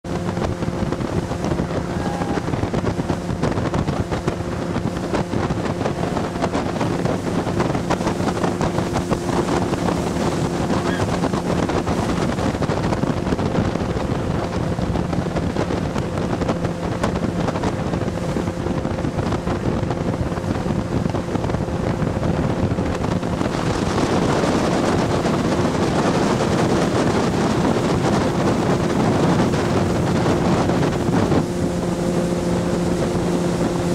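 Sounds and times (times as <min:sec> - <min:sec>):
motorboat engine running: 0:00.0 - 0:33.9
water rushing past hull: 0:00.0 - 0:33.9
wind on microphone: 0:00.0 - 0:33.9.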